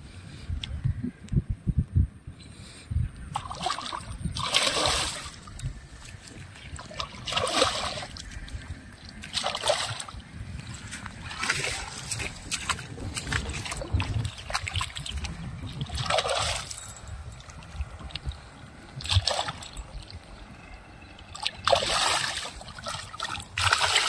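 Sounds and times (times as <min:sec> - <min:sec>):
water splashing and sloshing: 0:03.3 - 0:24.0.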